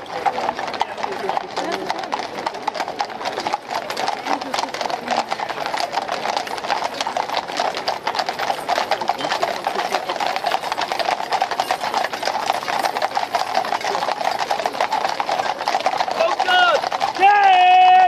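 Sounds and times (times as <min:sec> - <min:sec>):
horse hooves clip-clopping on road: 0:00.0 - 0:18.0.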